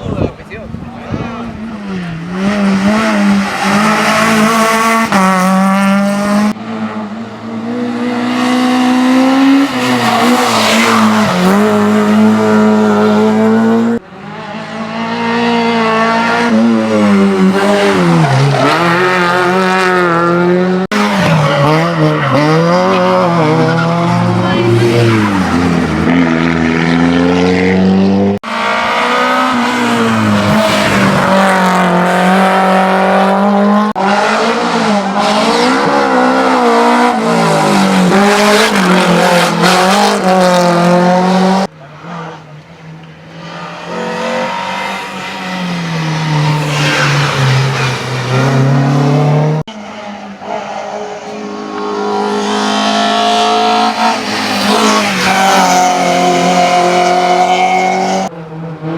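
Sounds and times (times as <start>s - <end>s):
race cars revving at full throttle: 0.0s - 58.9s.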